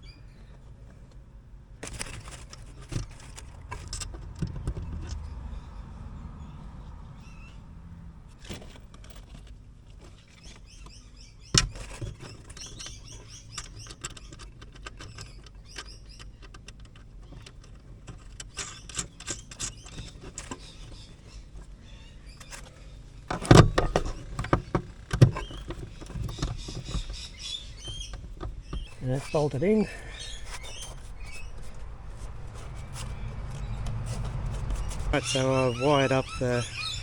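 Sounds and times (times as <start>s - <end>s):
faint squeaking: 0.0s - 37.0s
hand tools clicking and scraping: 1.8s - 5.3s, 8.3s - 21.8s, 22.4s - 37.0s.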